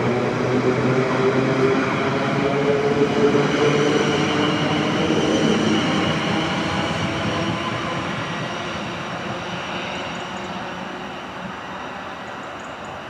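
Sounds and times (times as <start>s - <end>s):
train wheel and rail noise: 0.0s - 13.0s.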